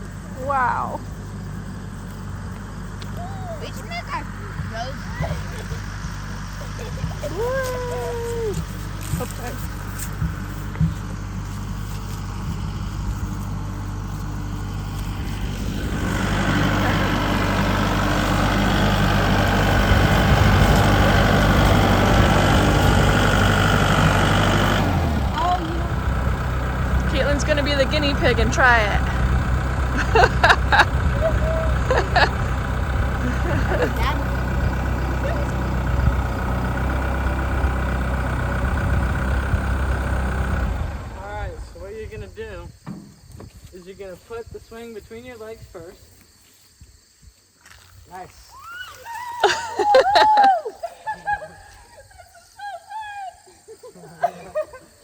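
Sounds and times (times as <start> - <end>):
vehicle engine humming: 0.0 - 44.4.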